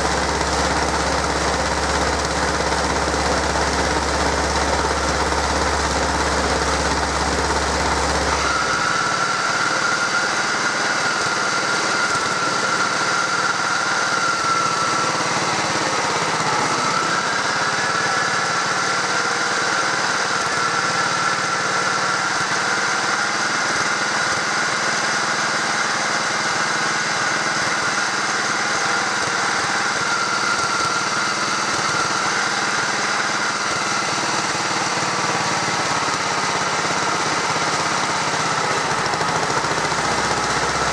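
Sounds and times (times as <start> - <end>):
roller engine running: 0.0 - 40.9.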